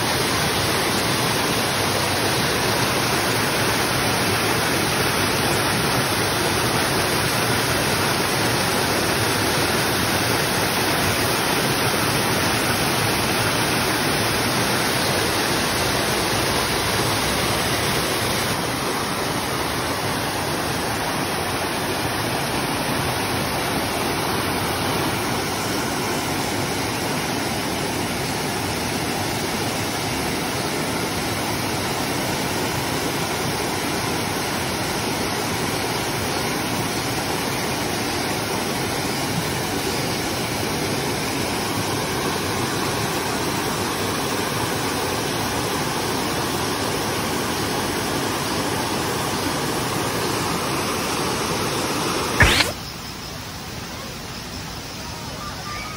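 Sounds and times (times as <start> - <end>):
stream rushing over stones: 0.0 - 55.3.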